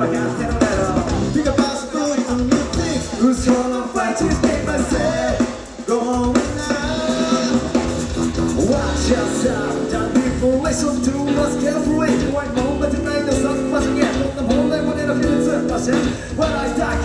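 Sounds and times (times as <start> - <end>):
bass guitar: 0.0 - 17.0
drum kit: 0.0 - 17.0
electric guitar: 0.0 - 17.0
person singing: 0.0 - 17.0.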